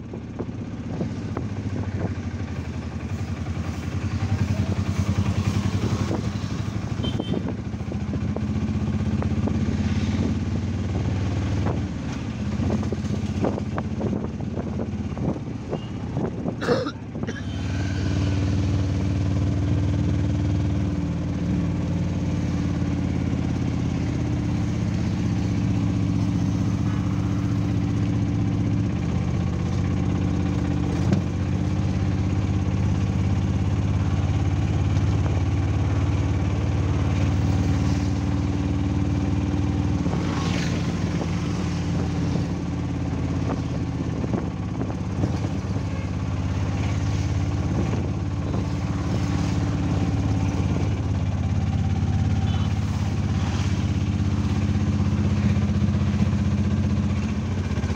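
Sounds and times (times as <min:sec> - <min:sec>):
auto-rickshaw engine running: 0:00.0 - 0:57.9.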